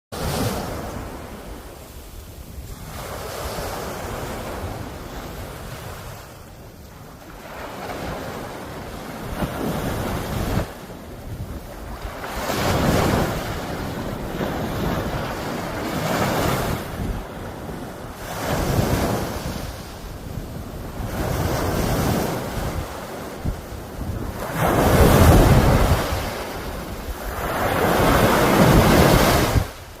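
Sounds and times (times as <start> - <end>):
sea waves breaking on shore: 0.2 - 30.0
wind buffeting microphone: 0.6 - 30.0.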